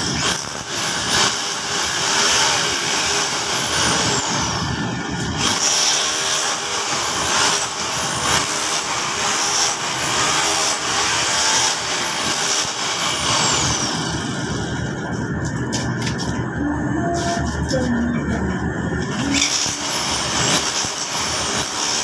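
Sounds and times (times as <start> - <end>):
pulsing machine noise: 0.0 - 22.0.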